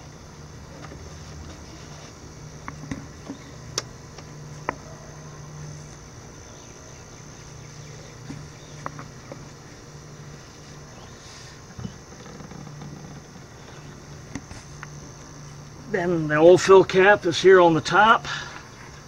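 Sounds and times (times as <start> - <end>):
steady high hiss: 0.0 - 19.0
steady low hum: 0.0 - 19.0.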